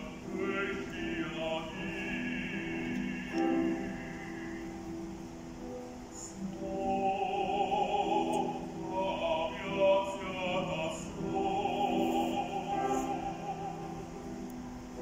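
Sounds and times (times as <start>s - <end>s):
man singing operatically: 0.0s - 4.8s, 6.4s - 14.4s
grand piano: 0.0s - 15.0s.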